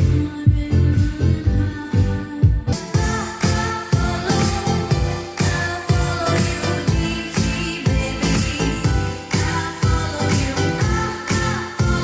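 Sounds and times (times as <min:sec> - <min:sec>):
pop dance music with heavy bass: 0:00.0 - 0:12.0.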